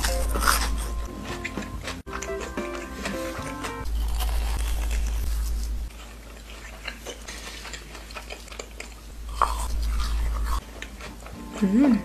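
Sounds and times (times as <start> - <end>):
crunchy snack being chewed: 0.0 - 11.9.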